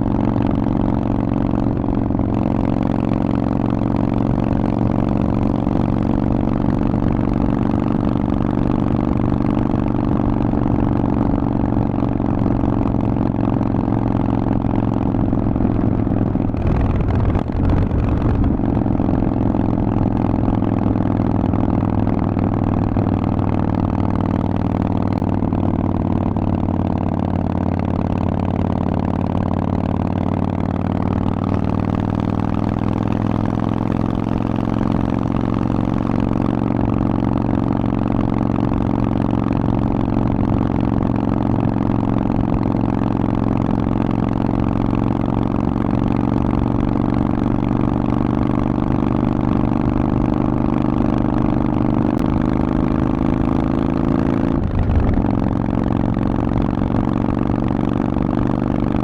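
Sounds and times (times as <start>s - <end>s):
motorcycle engine idling low: 0.0s - 48.2s, 49.6s - 59.0s.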